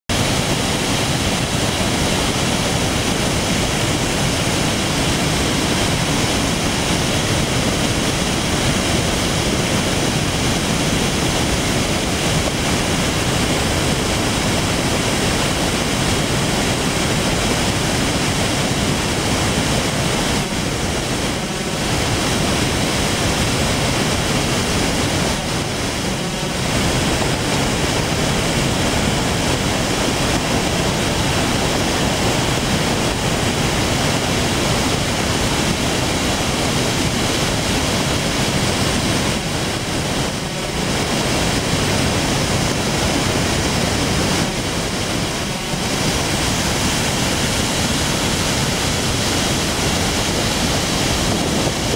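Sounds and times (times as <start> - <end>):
water rushing over a spillway: 0.1 - 51.9.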